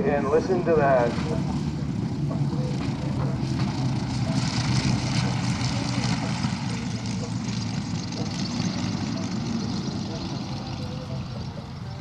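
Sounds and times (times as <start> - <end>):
propeller plane engines running: 0.0 - 12.0.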